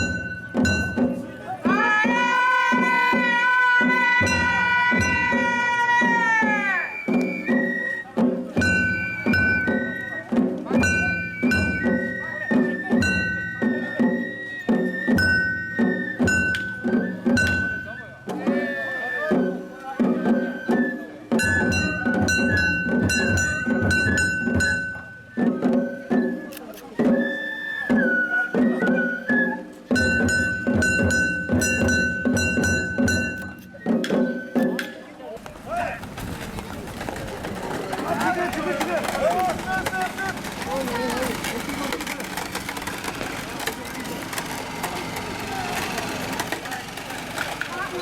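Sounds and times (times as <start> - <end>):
taiko drums beating: 0.0 - 26.3, 29.8 - 48.0.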